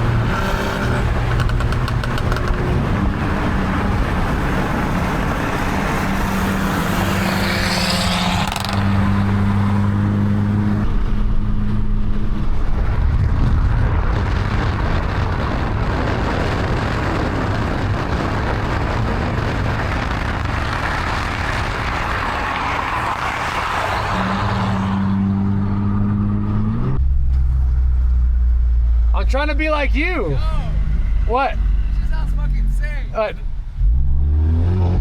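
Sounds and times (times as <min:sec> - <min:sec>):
car engine droning: 0:00.0 - 0:35.0
road and wind noise: 0:00.0 - 0:35.0.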